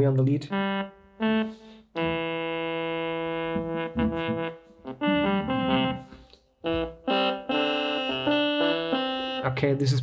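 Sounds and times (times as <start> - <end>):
synth lead notes: 0.5 - 9.4.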